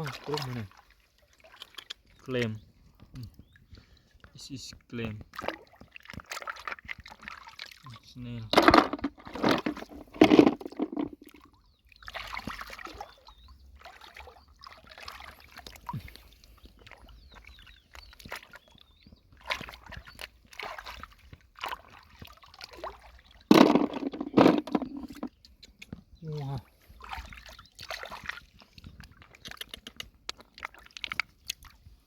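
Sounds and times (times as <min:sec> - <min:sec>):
lake water sloshing and splashing: 0:00.0 - 0:32.0.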